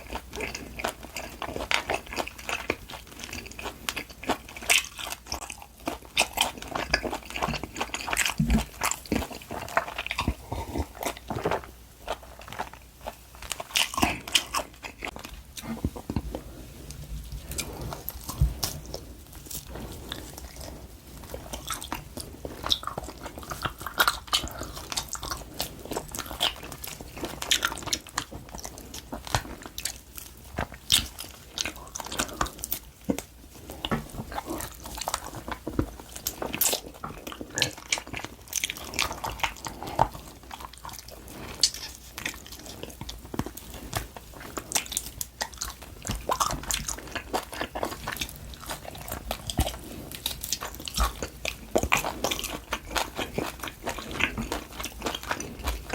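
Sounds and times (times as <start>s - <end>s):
chewing and biting meat: 0.0s - 55.9s.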